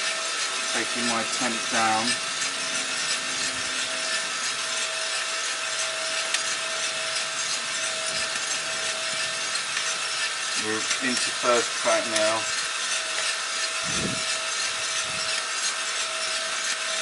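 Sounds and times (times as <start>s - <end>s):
coffee roaster running: 0.0s - 17.0s
steady machine whine: 0.0s - 17.0s.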